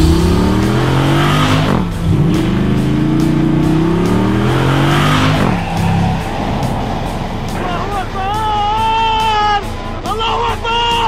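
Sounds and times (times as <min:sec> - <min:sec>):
truck engine accelerating: 0:00.0 - 0:10.1.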